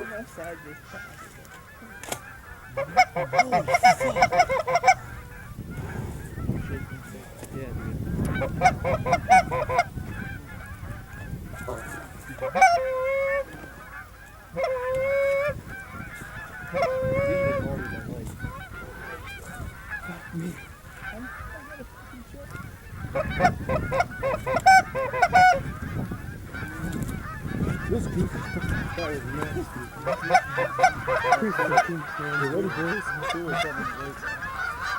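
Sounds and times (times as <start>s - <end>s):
geese honking: 0.0s - 34.9s.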